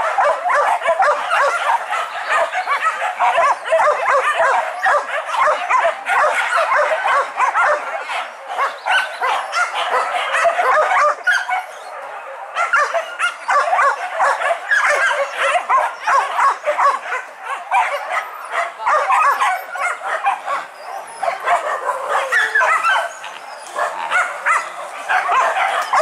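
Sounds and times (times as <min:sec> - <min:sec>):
dogs barking and yelping: 0:00.0 - 0:26.0.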